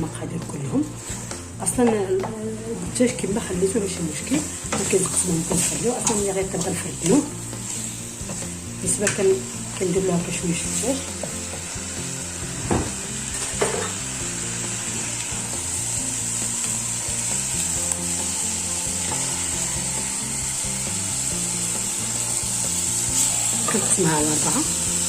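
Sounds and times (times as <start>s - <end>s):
light background music: 0.0s - 25.0s
food sizzling in a pot: 0.4s - 25.0s.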